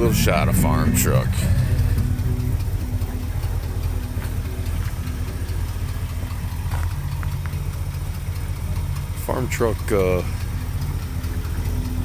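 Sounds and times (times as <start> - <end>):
engine idling: 0.0 - 12.0
exhaust ticking: 0.0 - 12.0.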